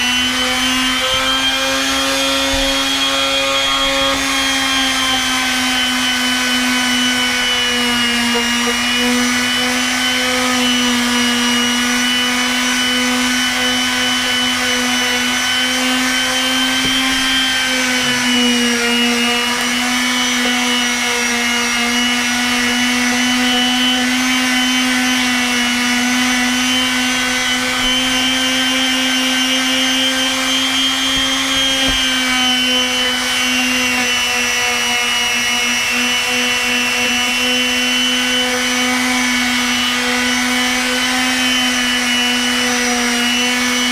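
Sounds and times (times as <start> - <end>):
palm sander whining: 0.0 - 43.9.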